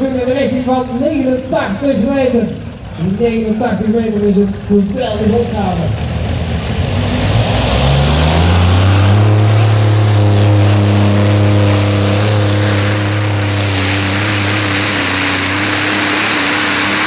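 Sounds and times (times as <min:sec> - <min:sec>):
pulling tractor engines screaming: 0:00.0 - 0:17.0.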